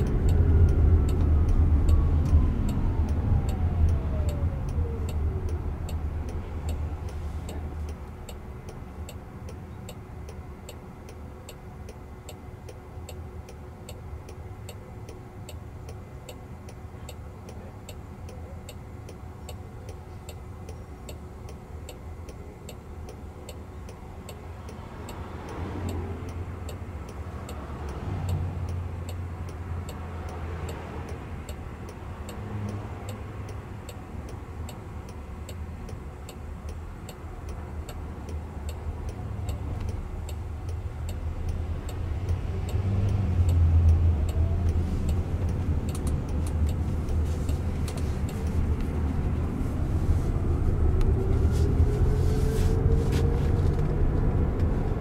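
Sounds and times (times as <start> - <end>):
turn signal clicking: 0.0 - 49.6
passing traffic rumbling: 0.0 - 55.0.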